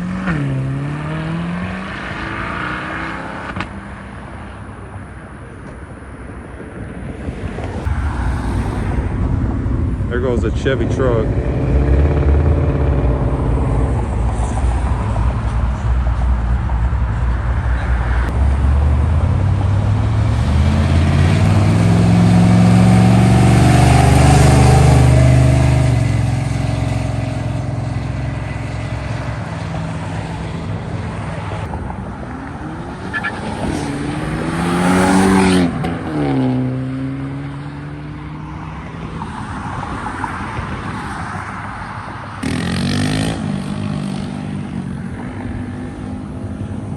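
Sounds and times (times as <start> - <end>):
vehicle engines accelerating: 0.0 - 46.9.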